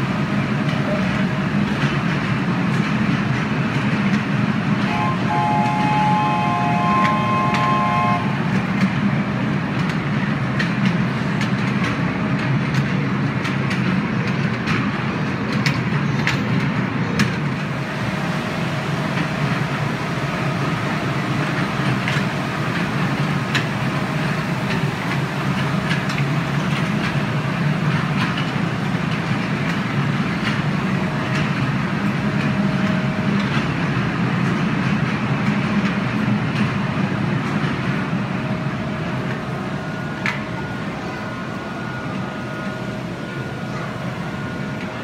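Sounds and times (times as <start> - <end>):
miniature train rumbling: 0.0 - 45.0.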